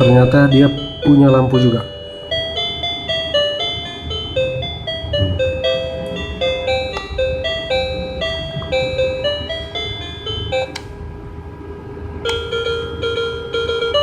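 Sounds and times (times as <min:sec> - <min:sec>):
toy electronic beeping melody: 0:00.0 - 0:10.8, 0:12.3 - 0:14.0.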